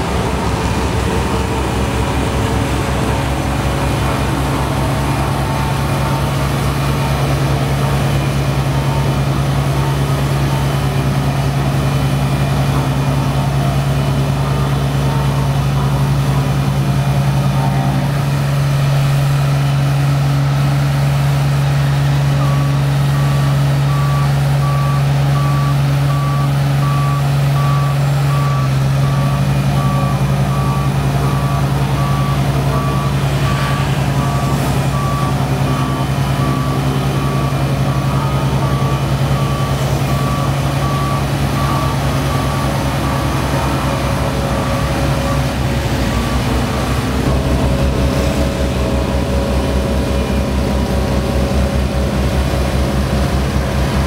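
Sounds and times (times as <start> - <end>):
reverse alarm beeping: 0.0 - 18.1, 22.3 - 50.5
road roller diesel hum: 0.0 - 54.0.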